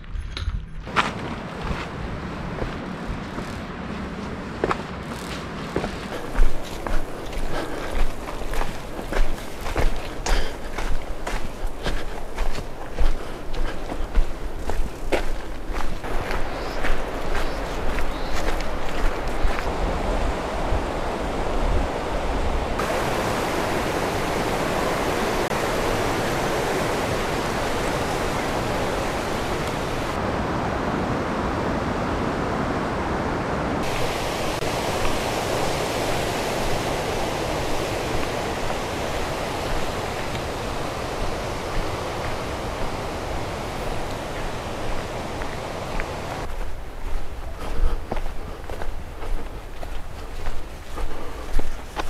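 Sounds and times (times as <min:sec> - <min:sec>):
creek rushing over rocks: 0:00.9 - 0:52.0.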